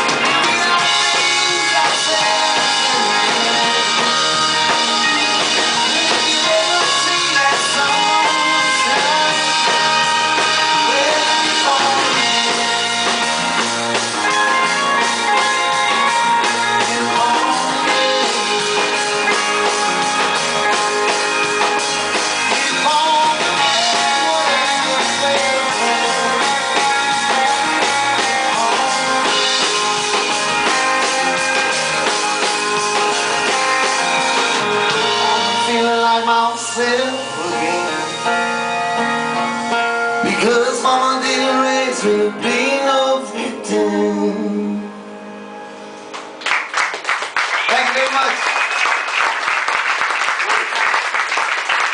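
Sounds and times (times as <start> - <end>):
drum kit: 0.0 - 42.0
electric guitar: 0.0 - 51.9.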